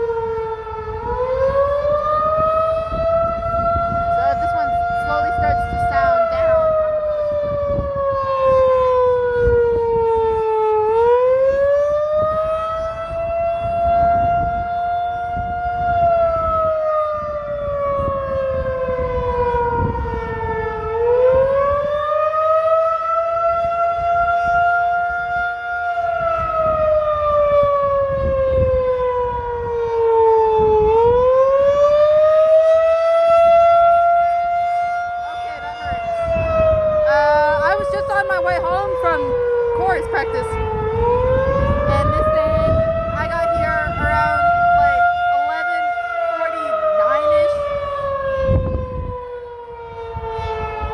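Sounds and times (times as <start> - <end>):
warning siren wailing: 0.0 - 50.9.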